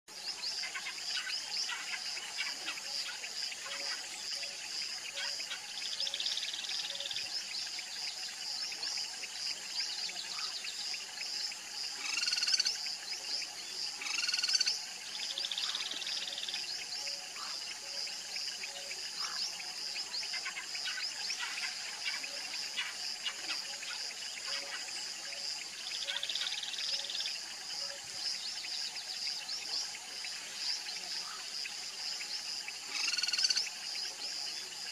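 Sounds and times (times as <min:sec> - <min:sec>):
frogs and insects calling: 0:00.1 - 0:34.9.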